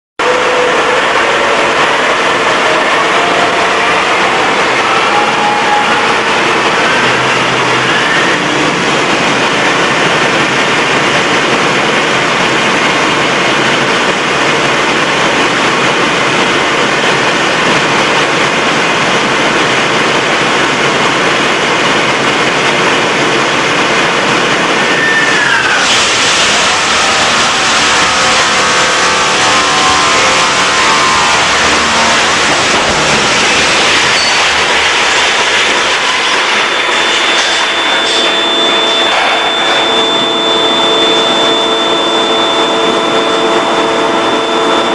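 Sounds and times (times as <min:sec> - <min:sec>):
diesel engine running hard: 0:00.2 - 0:44.9.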